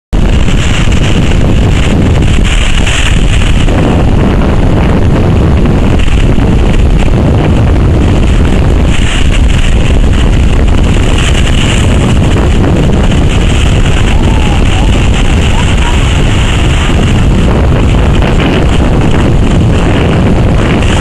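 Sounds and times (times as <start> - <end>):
wind buffeting microphone: 0.1 - 21.0
surf breaking on shore: 0.2 - 21.0.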